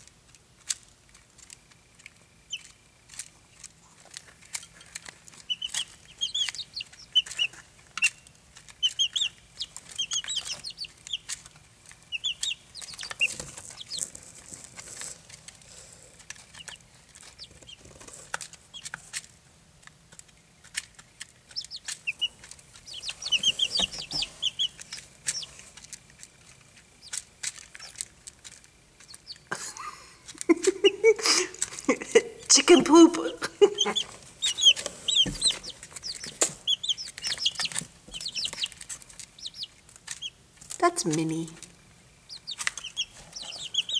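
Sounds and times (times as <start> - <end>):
chicks pecking and scratching shavings: 0.0 - 43.9
chicks peeping: 0.6 - 43.9.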